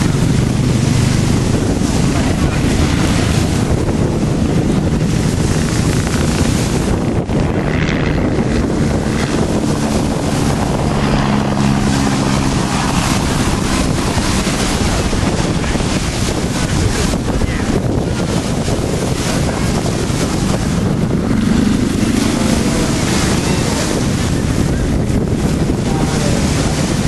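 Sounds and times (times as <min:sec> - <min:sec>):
low engine drone: 0:00.0 - 0:27.0
wind noise on microphone: 0:00.0 - 0:27.0.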